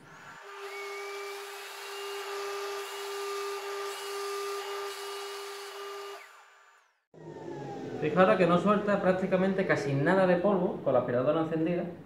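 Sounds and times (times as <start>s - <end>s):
sander machine hum and whine: 0.0s - 10.1s
shop vacuum running: 0.0s - 10.8s.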